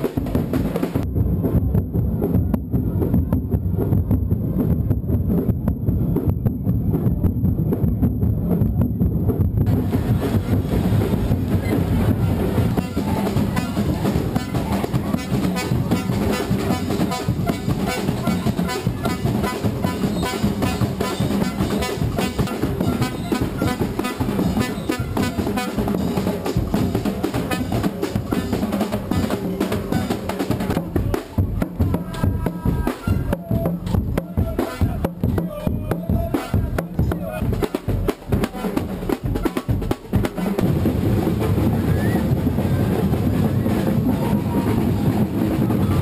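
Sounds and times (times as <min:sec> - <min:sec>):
drum group playing: 0:00.0 - 0:46.0.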